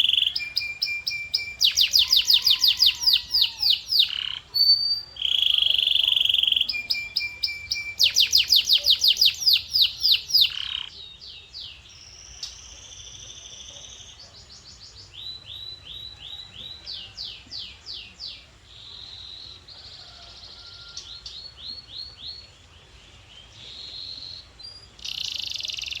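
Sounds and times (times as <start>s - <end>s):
canary singing trills: 0.0s - 22.5s, 23.1s - 26.0s.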